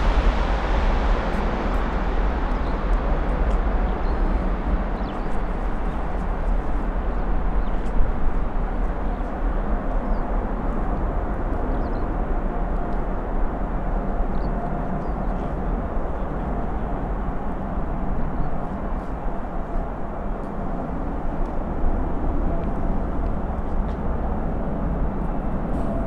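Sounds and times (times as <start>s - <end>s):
faint jet whine: 0.0s - 26.0s
jet engines roaring: 0.0s - 26.0s.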